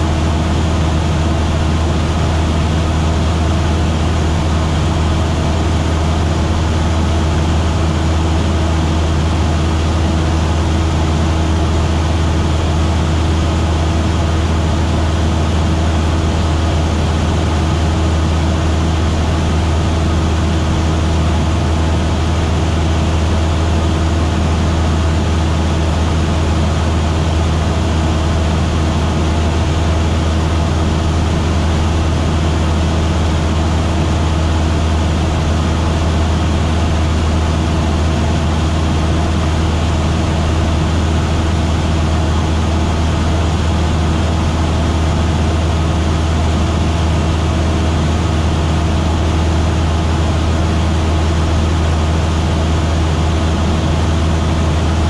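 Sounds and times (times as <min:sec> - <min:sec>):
propeller aircraft engine drone: 0:00.0 - 0:55.0.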